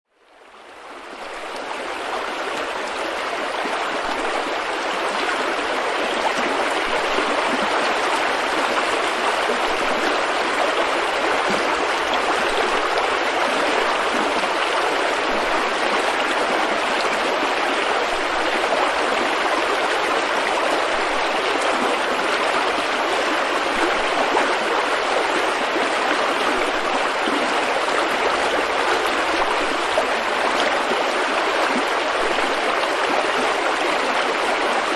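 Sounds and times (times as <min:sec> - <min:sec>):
water rushing over rocks: 0:01.3 - 0:34.9.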